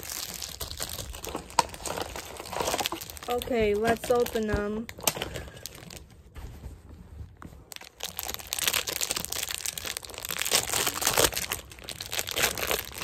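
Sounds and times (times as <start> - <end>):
plastic wrapper crinkling: 0.0 - 6.3, 7.7 - 13.0.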